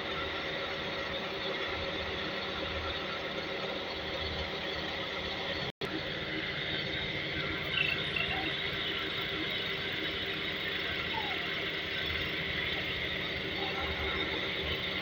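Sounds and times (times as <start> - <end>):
car engine idling with misfires: 0.2 - 15.0.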